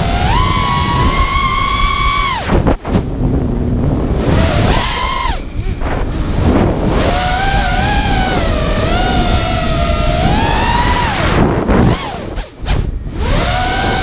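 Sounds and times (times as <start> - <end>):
drone motors whining: 0.0 - 14.0
wind on microphone: 0.0 - 14.0.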